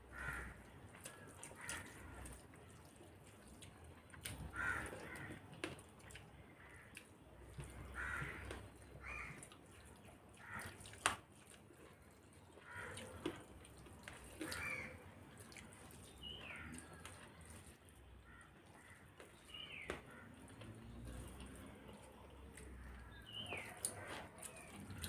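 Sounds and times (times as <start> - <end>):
people chewing wetly: 0.0 - 25.0.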